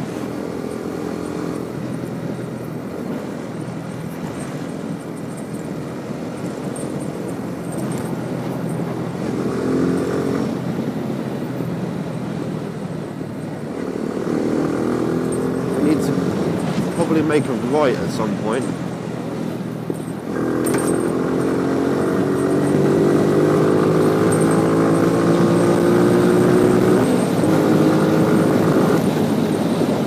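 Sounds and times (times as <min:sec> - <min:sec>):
motorcycle engine running: 0:00.0 - 0:30.0
wind over microphone: 0:00.0 - 0:30.0.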